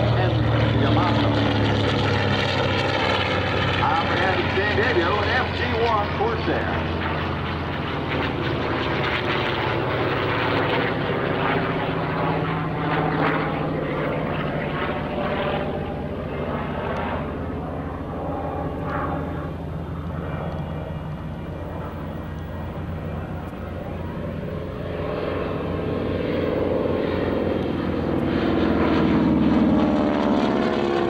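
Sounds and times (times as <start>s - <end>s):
piston engine drone: 0.0s - 31.0s
propeller noise: 0.0s - 31.0s.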